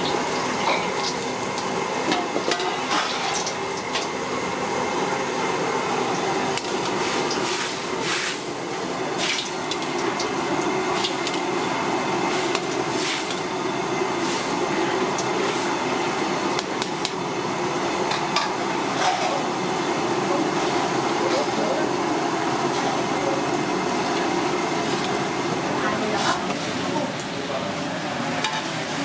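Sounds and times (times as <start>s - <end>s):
water boiling in a wok: 0.0s - 29.0s.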